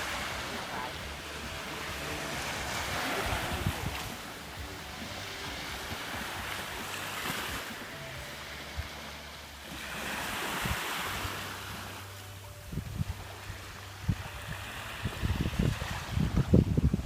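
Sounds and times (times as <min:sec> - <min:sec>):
sea waves on a sandy beach: 0:00.0 - 0:17.0
wind rumbling on microphone: 0:00.0 - 0:17.0.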